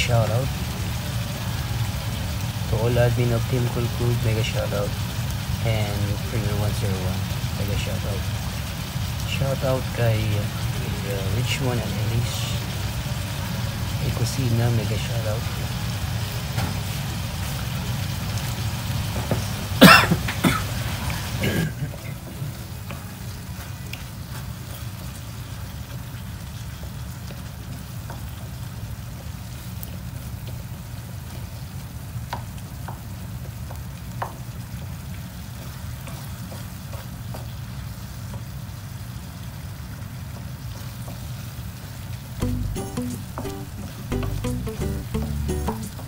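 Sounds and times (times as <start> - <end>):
vegetables cooking in a frying pan: 0.0 - 46.0.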